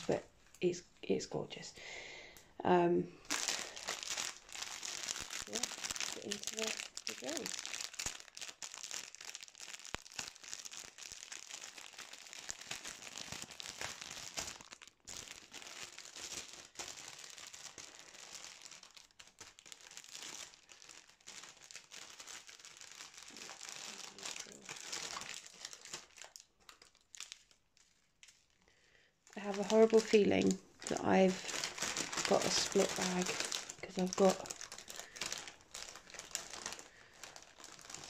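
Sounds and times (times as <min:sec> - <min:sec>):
plastic packaging crinkling: 0:03.2 - 0:38.0.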